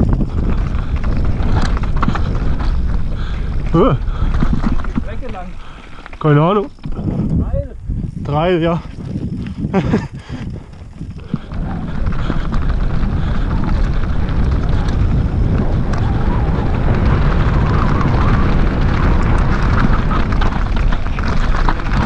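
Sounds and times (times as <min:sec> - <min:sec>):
bike tyres rattling over stones: 0:00.0 - 0:22.0
wind buffeting microphone: 0:00.0 - 0:22.0.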